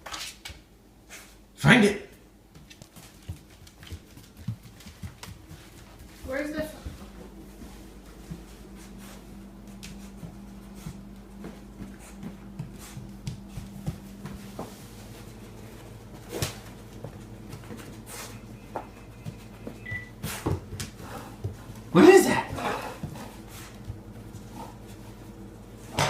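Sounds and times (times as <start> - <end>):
steady low hum: 0.4 - 26.0.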